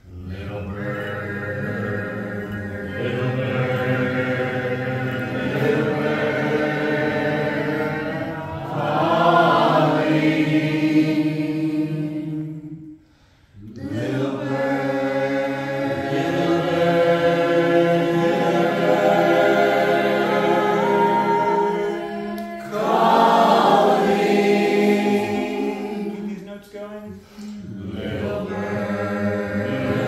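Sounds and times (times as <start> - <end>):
group singing a cappella: 0.0 - 30.0.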